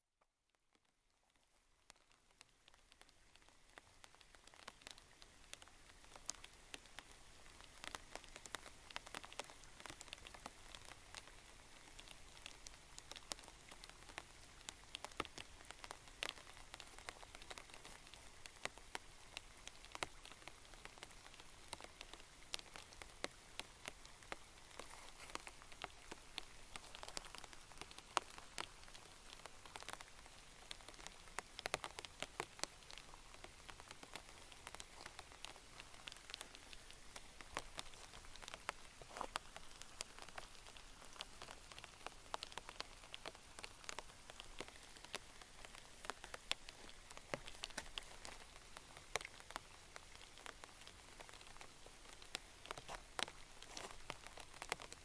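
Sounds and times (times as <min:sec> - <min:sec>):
raindrops ticking close by: 0:00.2 - 0:55.0
rain falling: 0:00.8 - 0:55.0.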